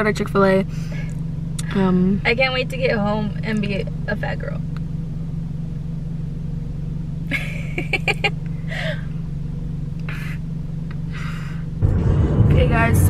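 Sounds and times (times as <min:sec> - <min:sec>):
car driving rumble inside cabin: 0:00.0 - 0:13.0.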